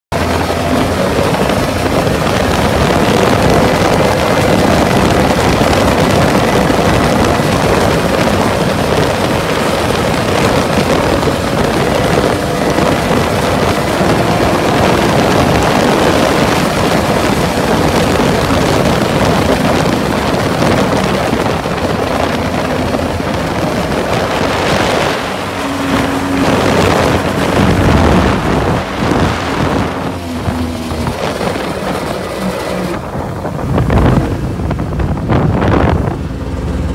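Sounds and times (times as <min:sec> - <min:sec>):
jet boat engines running: 0:00.1 - 0:36.9
water rushing: 0:00.1 - 0:36.9
wind buffeting microphone: 0:00.1 - 0:36.9.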